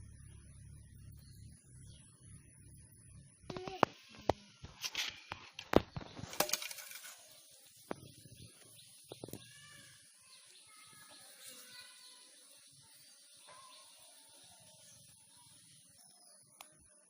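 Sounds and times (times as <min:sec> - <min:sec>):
faint background sound: 0:00.0 - 0:17.0.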